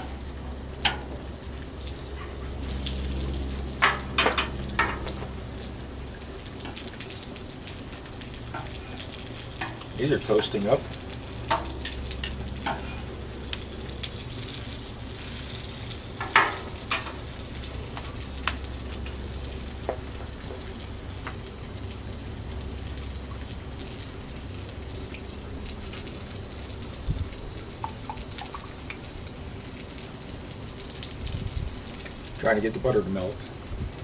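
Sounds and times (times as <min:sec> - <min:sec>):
food sizzling on griddle: 0:00.0 - 0:34.0.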